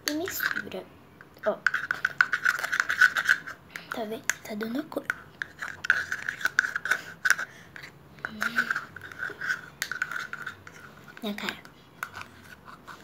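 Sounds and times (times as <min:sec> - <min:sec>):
metal spoon scraping plastic bowl: 0:00.0 - 0:00.8, 0:01.5 - 0:13.0.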